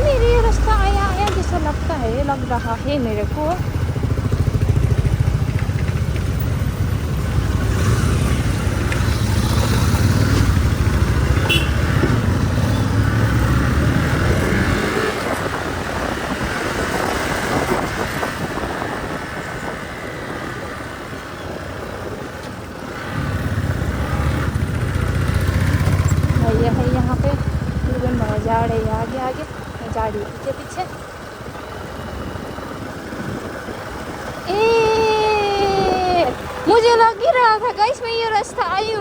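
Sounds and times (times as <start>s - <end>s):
motorcycle engine running: 0.0s - 19.8s, 23.1s - 34.6s.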